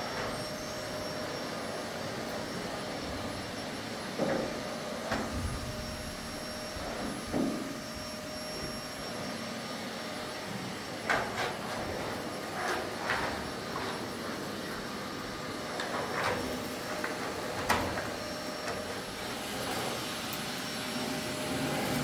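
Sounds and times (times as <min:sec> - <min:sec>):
vacuum cleaner whirring: 0:00.0 - 0:22.0.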